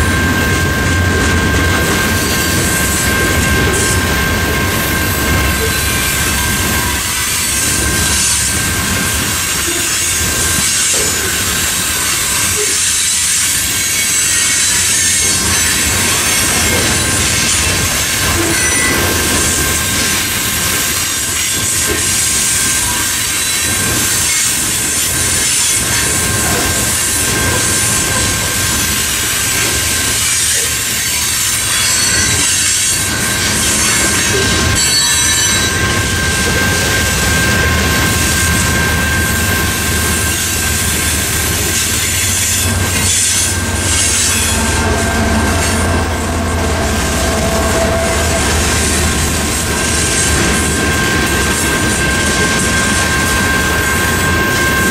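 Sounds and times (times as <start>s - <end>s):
crossing bells ringing: 0.0s - 54.9s
locomotive engine drone: 0.0s - 54.9s
train wheels rumbling on rails: 0.0s - 54.9s.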